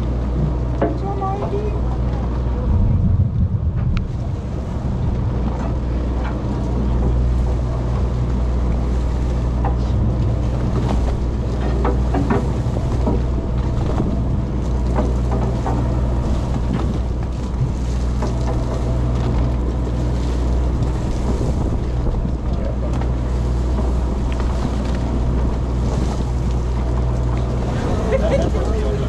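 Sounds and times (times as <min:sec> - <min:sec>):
boat engine humming: 0:00.0 - 0:29.0
sea wash: 0:00.0 - 0:29.0
wind on microphone: 0:01.3 - 0:29.0.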